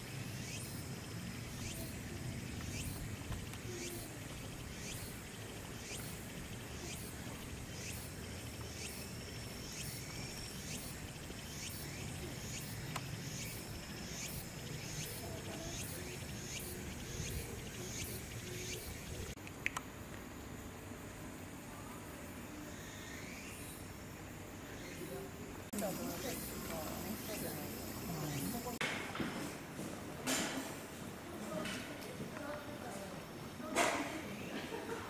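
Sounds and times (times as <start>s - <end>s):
insects chirping: 0.0s - 28.8s
outdoor background noise: 0.0s - 35.0s.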